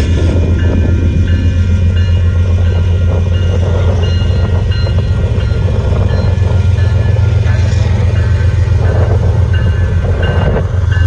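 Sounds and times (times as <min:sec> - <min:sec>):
train cars rumbling on rails: 0:00.0 - 0:11.0.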